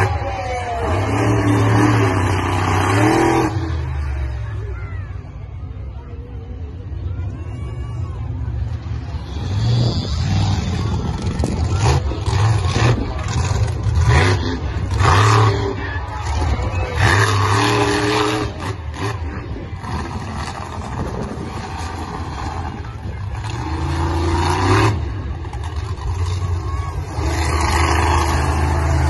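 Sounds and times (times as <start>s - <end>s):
monster truck engine revving: 0.0s - 4.8s, 8.7s - 29.0s.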